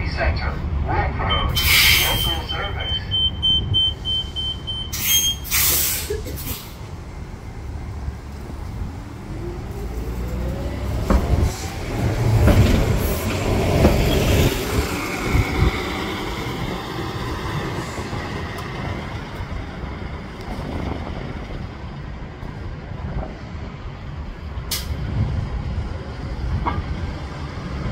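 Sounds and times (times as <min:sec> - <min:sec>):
bus engine whine accelerating: 0:01.1 - 0:27.9.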